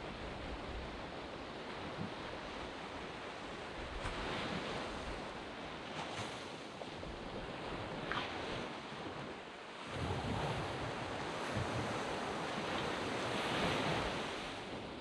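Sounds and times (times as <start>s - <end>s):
small waves washing up a beach: 0.0s - 15.0s.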